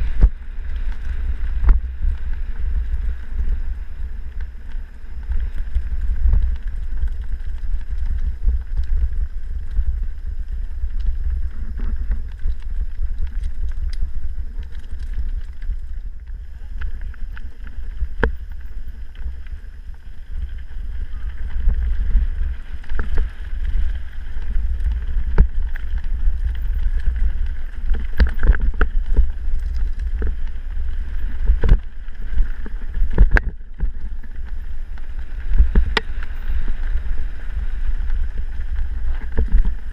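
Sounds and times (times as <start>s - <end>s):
bike rattling and knocking: 0.0s - 39.9s
wind rumble on microphone: 0.0s - 39.9s.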